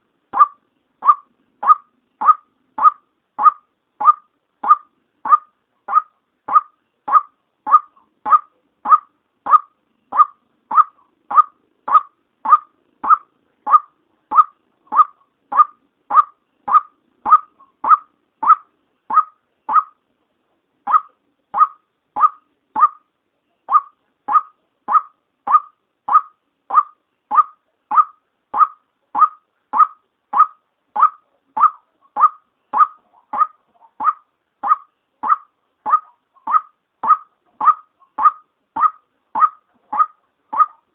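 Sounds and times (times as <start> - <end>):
waterhen calling: 0.0 - 20.0, 20.9 - 23.1, 23.7 - 40.9.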